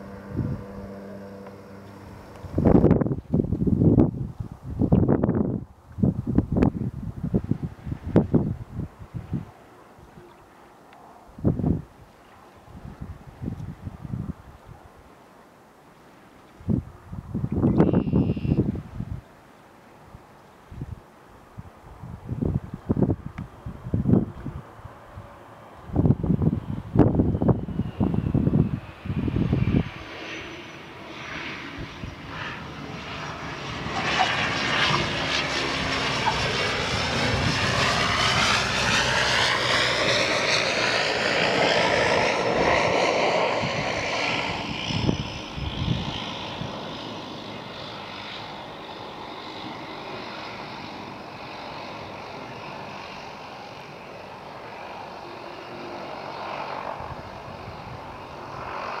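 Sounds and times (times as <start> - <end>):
turboprop floatplane passing: 0.0 - 14.9, 16.0 - 59.0.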